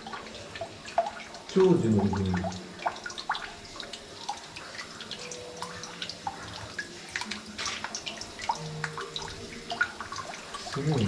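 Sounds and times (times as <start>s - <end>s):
faint water trickle: 0.0s - 11.0s
water dripping into a pool: 0.0s - 11.0s.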